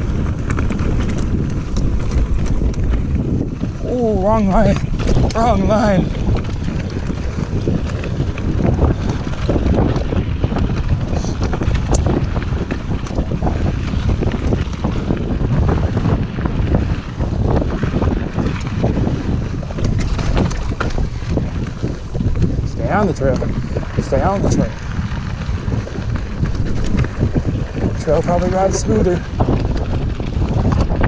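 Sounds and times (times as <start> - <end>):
bike rattling over stones: 0.0 - 31.0
wind on microphone: 0.0 - 31.0.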